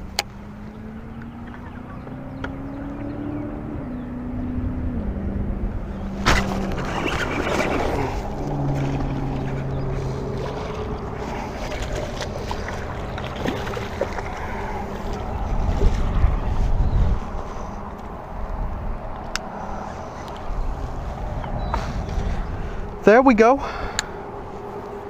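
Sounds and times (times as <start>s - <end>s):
boat motor humming: 0.0s - 25.0s
wind buffeting microphone: 0.0s - 25.0s.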